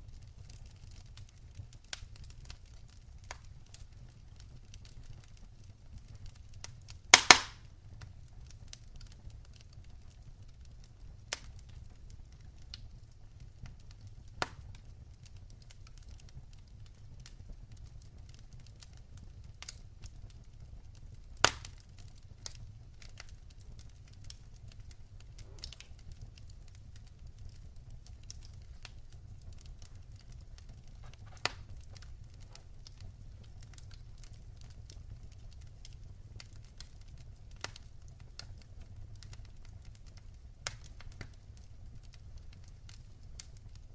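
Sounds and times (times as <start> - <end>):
fire crackling: 0.0 - 43.9
fire popping: 0.0 - 43.9
fire rumbling: 0.0 - 43.9.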